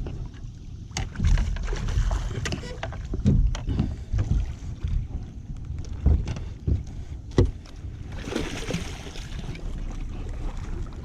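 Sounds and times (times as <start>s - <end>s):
water slapping against boat hull: 0.0s - 11.0s.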